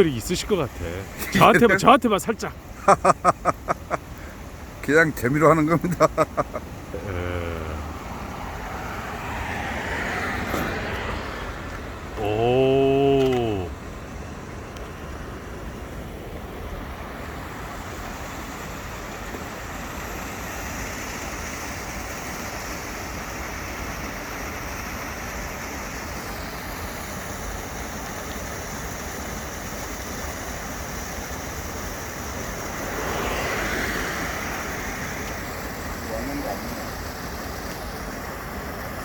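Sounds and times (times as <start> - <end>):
mountain stream rushing: 0.0 - 39.0
wind: 0.0 - 39.0.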